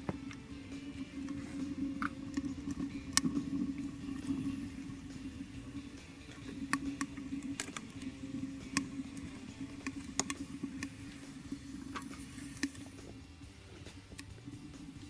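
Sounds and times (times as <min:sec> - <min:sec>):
small fire crackling: 0:00.0 - 0:15.0
steady low hum: 0:00.0 - 0:15.0.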